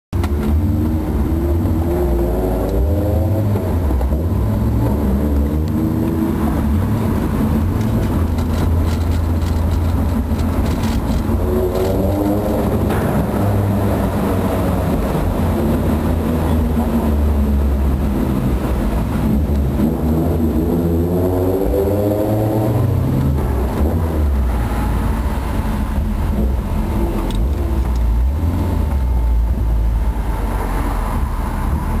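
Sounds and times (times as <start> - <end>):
deep steady engine exhaust: 0.1 - 32.0.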